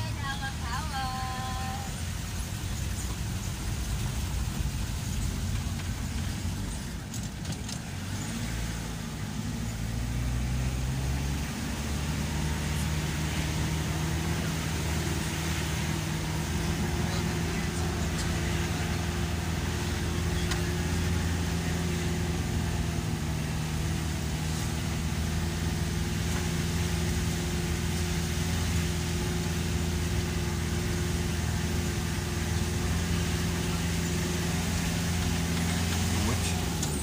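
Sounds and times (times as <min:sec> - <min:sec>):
vehicle engine droning: 0:00.0 - 0:37.0.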